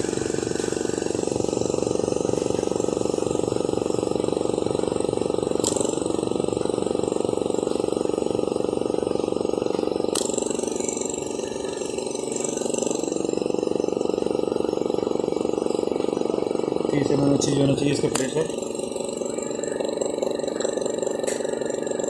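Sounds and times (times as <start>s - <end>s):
vacuum pump humming: 0.0s - 22.0s.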